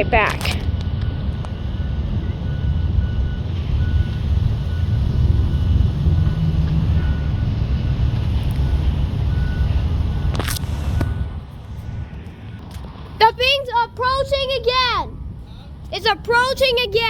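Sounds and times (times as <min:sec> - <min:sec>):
plane engines droning: 0:00.0 - 0:17.0.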